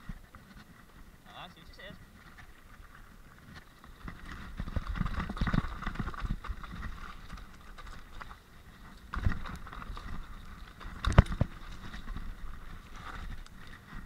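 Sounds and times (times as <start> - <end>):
bike rattling and clattering: 0.0 - 14.0
tyres crunching over stones: 0.0 - 14.0.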